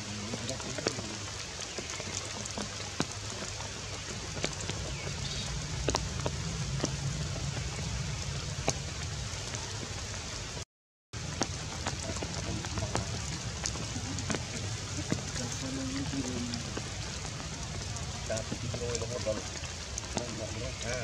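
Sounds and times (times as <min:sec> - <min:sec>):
steady rain falling: 0:00.0 - 0:10.6, 0:11.2 - 0:21.0.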